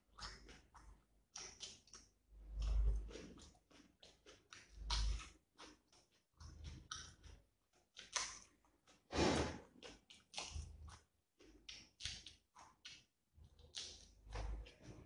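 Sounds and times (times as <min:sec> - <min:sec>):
man chewing and lip-smacking: 0:00.0 - 0:15.0.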